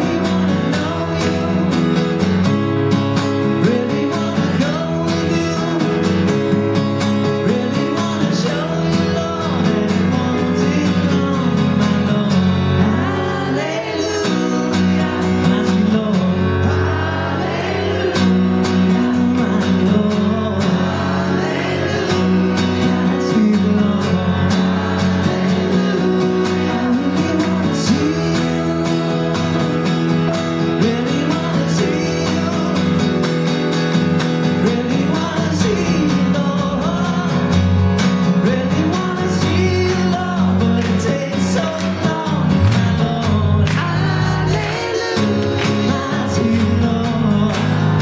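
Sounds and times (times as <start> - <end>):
acoustic guitar strummed: 0.0 - 48.0
bass: 0.0 - 48.0
keyboard: 0.0 - 48.0
man singing: 0.0 - 48.0.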